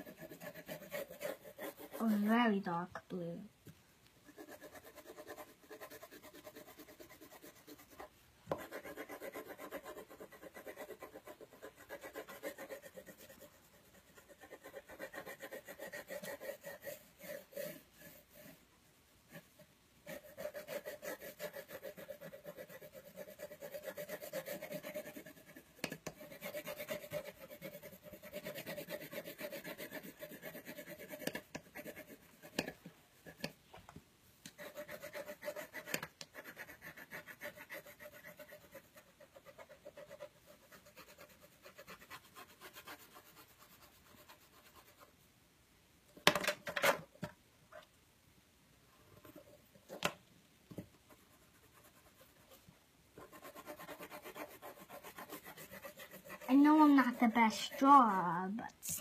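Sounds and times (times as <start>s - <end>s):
pencil scribbling on paper: 0.0s - 2.8s, 4.2s - 18.6s, 19.3s - 33.6s, 34.5s - 45.1s, 49.2s - 50.0s, 51.0s - 59.0s.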